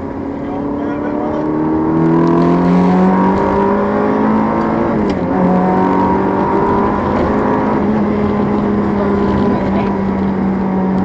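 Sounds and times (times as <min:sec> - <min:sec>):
sports car engine running: 0:00.0 - 0:11.0.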